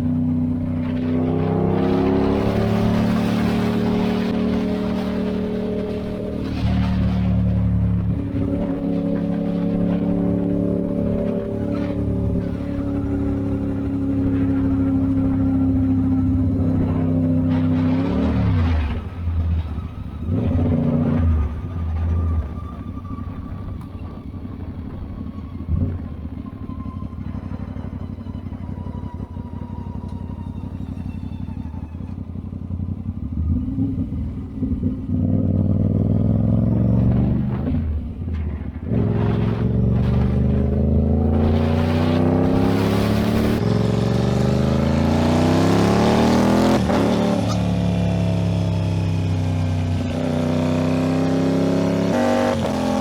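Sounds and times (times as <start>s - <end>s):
motorcycle engine coasting and accelerating: 0.0s - 53.0s.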